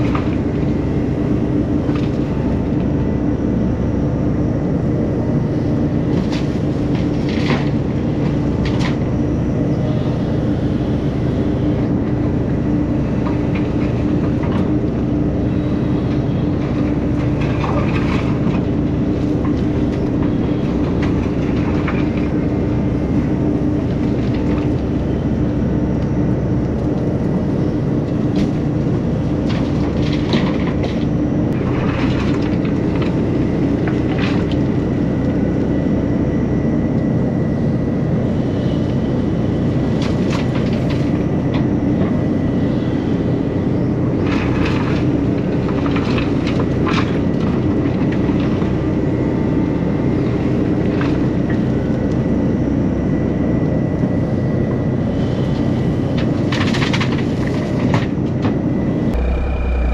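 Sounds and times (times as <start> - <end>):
excavator engine droning: 0.0 - 59.9.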